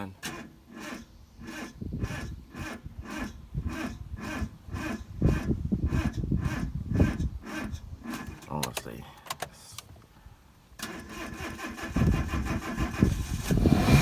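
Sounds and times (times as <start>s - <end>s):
car engine cranking slowly: 0.0s - 14.0s.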